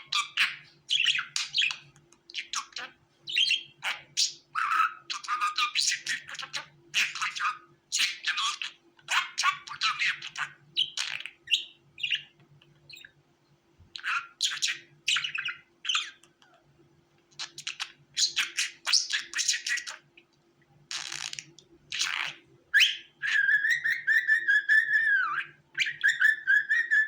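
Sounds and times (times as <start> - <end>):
budgerigars chirping and squawking: 0.0 - 12.3, 14.0 - 16.2, 17.4 - 20.1, 20.9 - 27.0.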